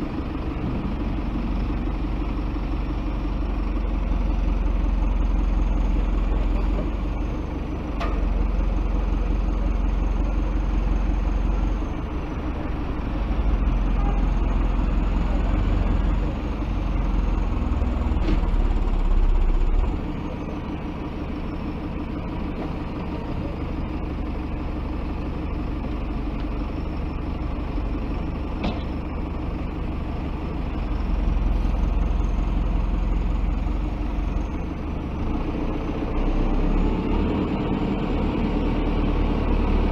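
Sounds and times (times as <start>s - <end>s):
backhoe diesel engine digging: 0.0s - 39.9s.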